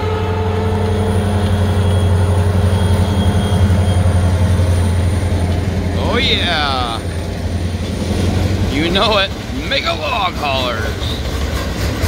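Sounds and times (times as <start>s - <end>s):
diesel locomotives passing: 0.0s - 12.0s.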